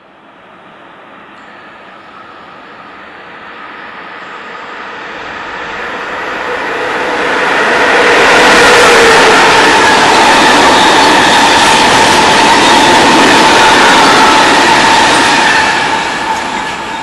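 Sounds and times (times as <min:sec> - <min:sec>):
electric locomotive running: 0:00.0 - 0:17.0.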